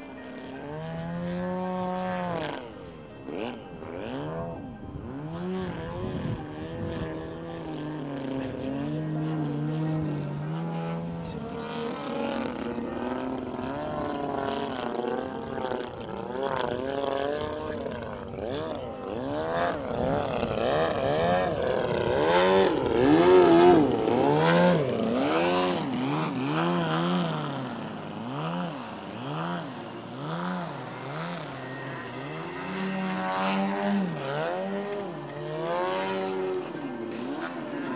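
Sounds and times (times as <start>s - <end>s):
model plane engine and propeller: 0.0s - 37.9s.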